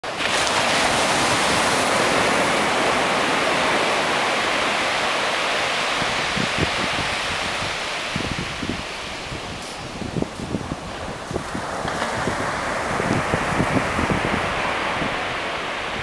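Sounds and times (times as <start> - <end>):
surf breaking on beach: 0.0 - 16.0
wind buffeting microphone: 0.1 - 16.0.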